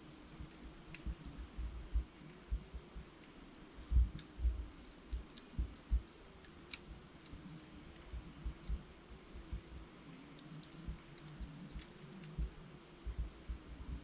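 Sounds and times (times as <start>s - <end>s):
faint steady hiss: 0.0s - 14.0s
wood logs crackling in fireplace: 0.0s - 14.0s.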